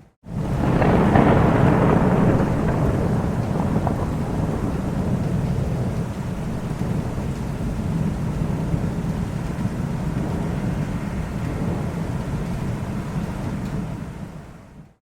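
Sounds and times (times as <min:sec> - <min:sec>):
rolling thunder: 0:00.2 - 0:14.9
continuous rain: 0:00.2 - 0:15.0.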